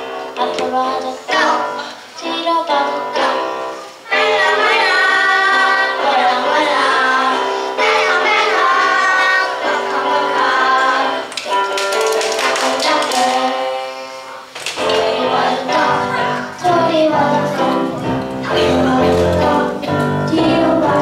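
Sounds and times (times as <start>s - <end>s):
child singing into microphone: 0.0s - 21.0s
musical accompaniment: 0.0s - 21.0s.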